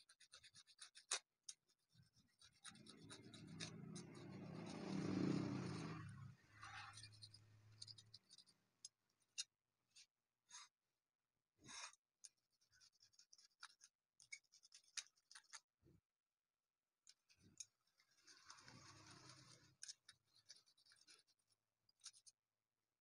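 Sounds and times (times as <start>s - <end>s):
hand scratching stone: 0.0s - 10.8s, 11.6s - 15.7s, 17.0s - 22.4s.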